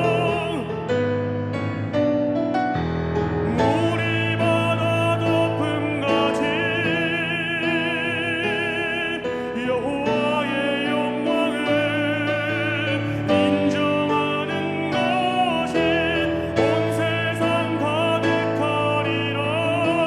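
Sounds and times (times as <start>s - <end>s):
worship song singing: 0.0s - 1.0s, 3.4s - 20.0s
keyboard accompaniment: 0.0s - 20.0s.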